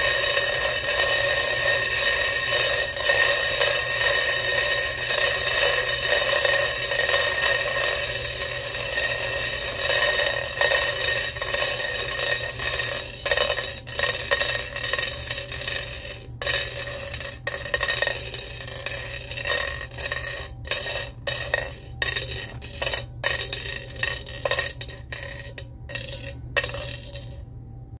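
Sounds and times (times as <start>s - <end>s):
metal bobbins clinking in a metal pot: 0.0s - 27.4s.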